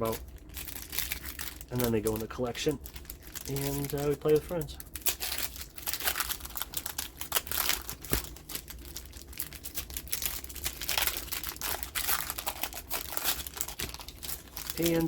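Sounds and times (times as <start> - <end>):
card pack wrapper crinkling: 0.0 - 15.0.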